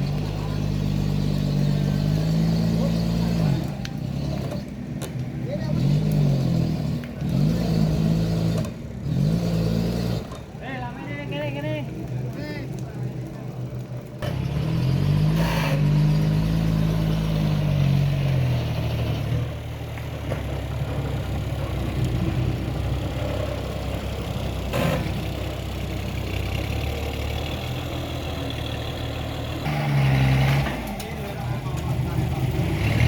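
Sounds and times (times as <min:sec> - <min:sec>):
heavy machine engine revving: 0:00.0 - 0:10.5, 0:14.0 - 0:33.0.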